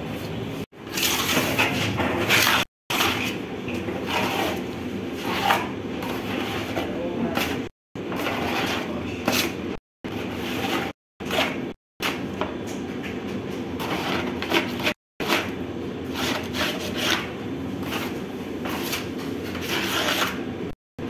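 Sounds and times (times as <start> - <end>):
scraper scraping a tub: 0.8 - 12.2, 13.8 - 20.5.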